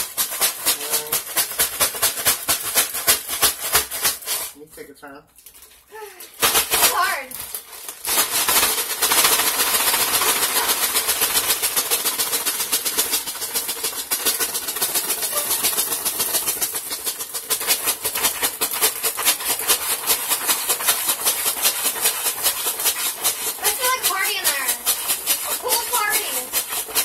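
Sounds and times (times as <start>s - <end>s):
ice rattling in shaken bag: 0.0s - 4.6s, 5.4s - 27.0s.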